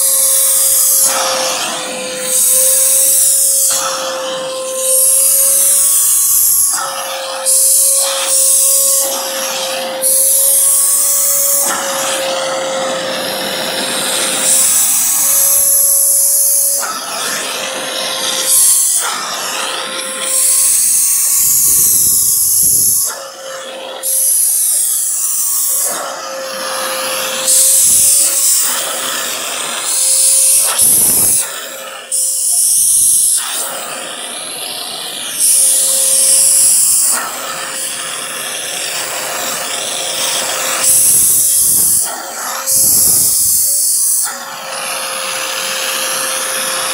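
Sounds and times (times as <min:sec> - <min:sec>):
air rushing at vacuum nozzle: 0:00.0 - 0:46.9
vacuum cleaner motor whine: 0:00.0 - 0:46.9.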